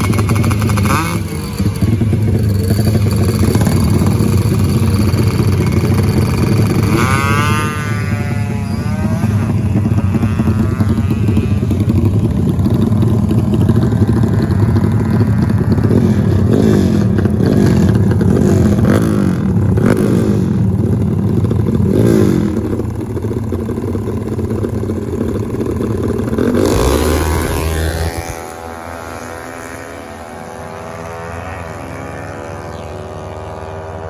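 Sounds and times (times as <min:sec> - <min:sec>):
racing motorcycle engines revving: 0:00.0 - 0:34.0.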